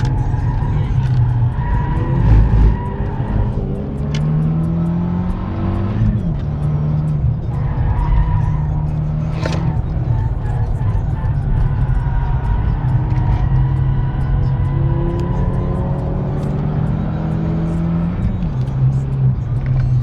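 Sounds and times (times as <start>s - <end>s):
car engine accelerating: 0.0s - 20.0s
tyre noise: 0.0s - 20.0s.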